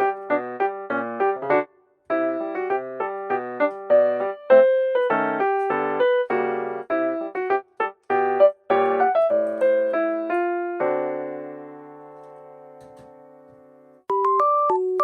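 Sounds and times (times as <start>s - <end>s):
bright keyboard tune: 0.0s - 15.0s
electric piano melody: 0.0s - 15.0s.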